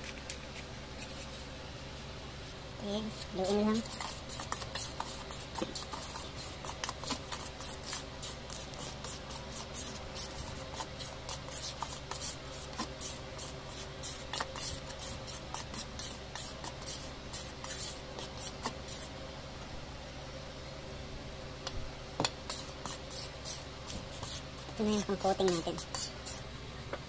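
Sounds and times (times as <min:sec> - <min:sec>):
spoon scraping powder in metal bowl: 0:00.0 - 0:19.1, 0:22.4 - 0:26.4.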